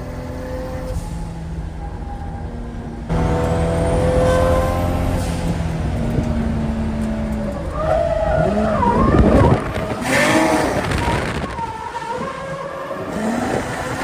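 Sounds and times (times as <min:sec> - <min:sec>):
tyres squealing: 0:00.3 - 0:14.0
car engine at high revs: 0:01.8 - 0:14.0.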